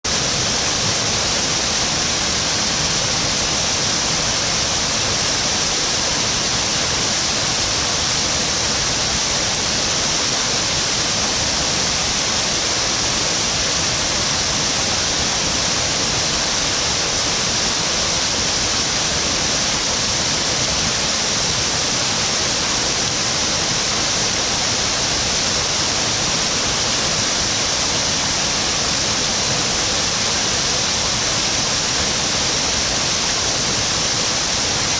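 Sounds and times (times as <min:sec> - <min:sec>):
waterfall pouring into pool: 0:00.1 - 0:34.9.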